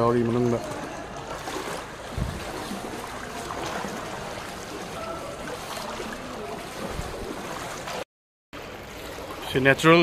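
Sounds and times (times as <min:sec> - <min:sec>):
floodwater rushing and sloshing: 0:00.0 - 0:10.0.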